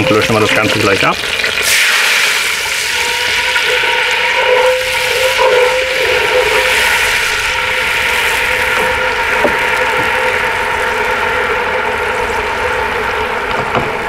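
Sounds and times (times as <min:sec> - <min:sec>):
liquid sizzling in hot pot: 0:00.0 - 0:13.6.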